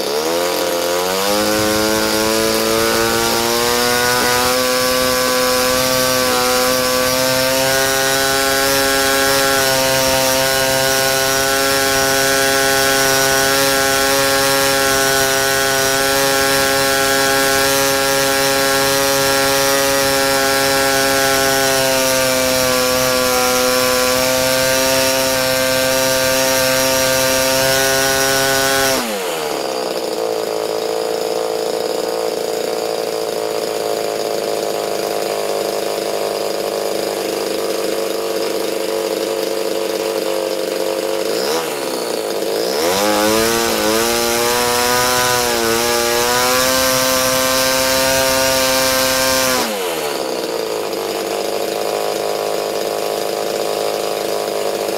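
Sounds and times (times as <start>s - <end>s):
model engine driving propeller: 0.0s - 54.9s.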